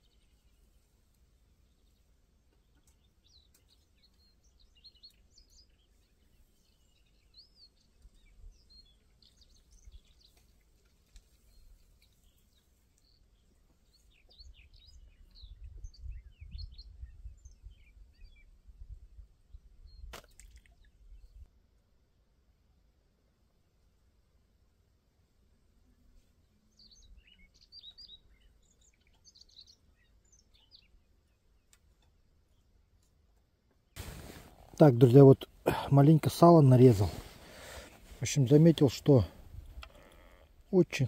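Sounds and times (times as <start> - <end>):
small birds chirping: 0.0 - 18.6, 25.9 - 41.0.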